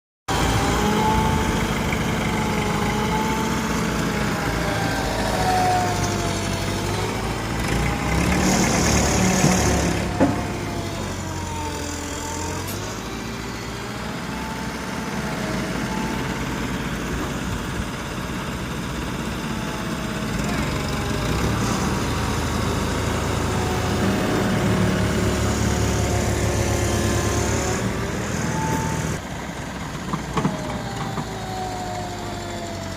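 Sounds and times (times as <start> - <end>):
heavy vehicle engine running: 0.3 - 32.9.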